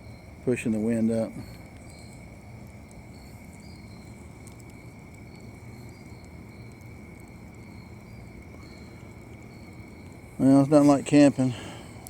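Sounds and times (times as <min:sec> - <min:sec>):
high insect chirps: 0:00.0 - 0:12.0
insects trilling: 0:00.0 - 0:12.0.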